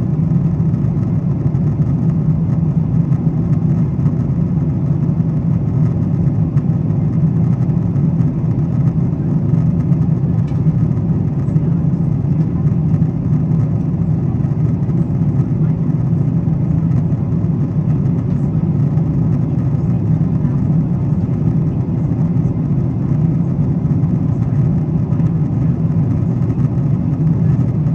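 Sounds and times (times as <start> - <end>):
airplane cabin roar: 0.0 - 27.9.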